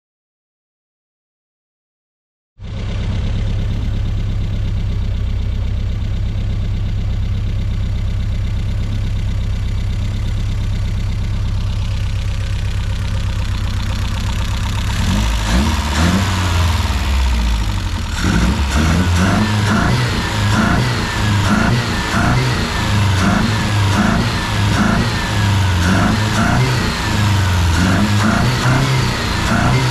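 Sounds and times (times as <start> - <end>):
car engine idling and revving: 2.6 - 29.9.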